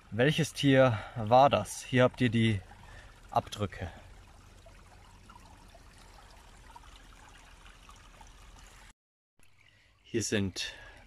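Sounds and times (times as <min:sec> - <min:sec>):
brook trickling over stones: 0:00.0 - 0:11.0.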